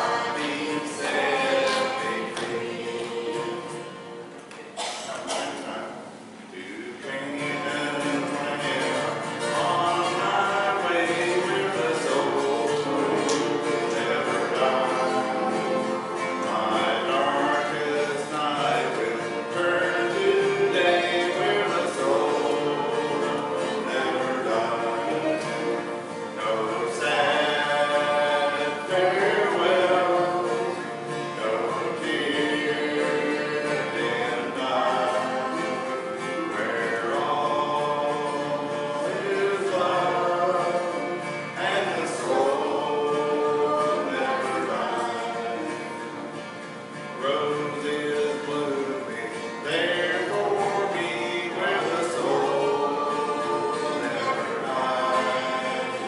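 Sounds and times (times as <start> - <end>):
acoustic guitar: 0.0 - 56.0
person singing a hymn: 0.0 - 56.0.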